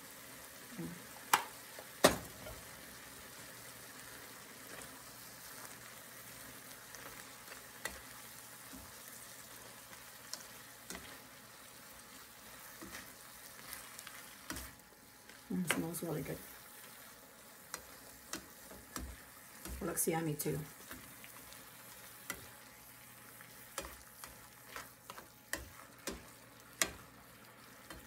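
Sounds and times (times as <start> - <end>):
food sizzling in a frying pan: 0.0 - 28.0
spoon stirring in a pan: 1.1 - 28.0.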